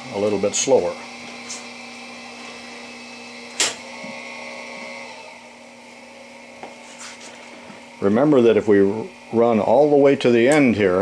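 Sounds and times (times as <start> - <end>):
lathe power feed humming: 0.0 - 11.0.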